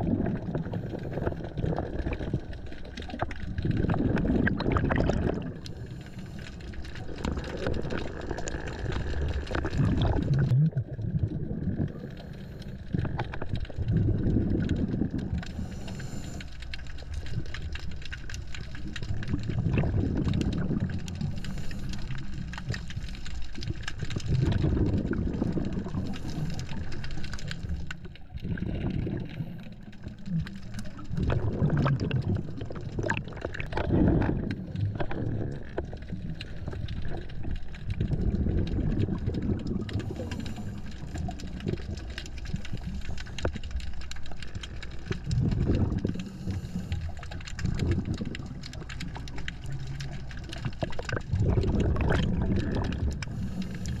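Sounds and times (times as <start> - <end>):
underwater exhaled bubbles: 0.0 - 54.0.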